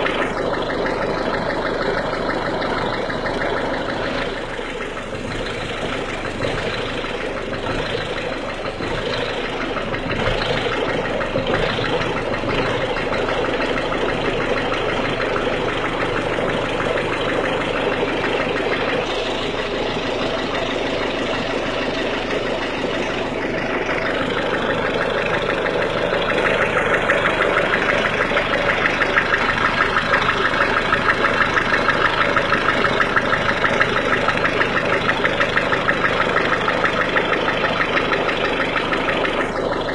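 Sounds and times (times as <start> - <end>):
diesel engine idling with knocking: 0.0 - 39.9.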